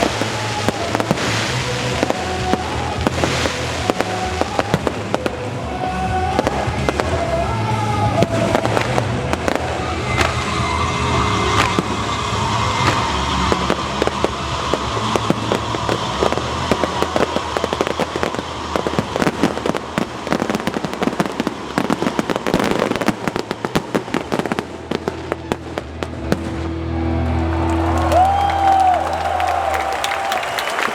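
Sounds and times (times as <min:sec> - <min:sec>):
fireworks bangs and crackles: 0:00.0 - 0:26.8
stadium music: 0:00.0 - 0:30.9.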